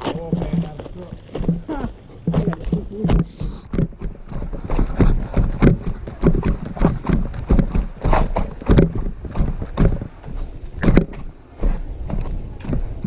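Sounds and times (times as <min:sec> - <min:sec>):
footsteps on loose rock: 0:00.0 - 0:13.0.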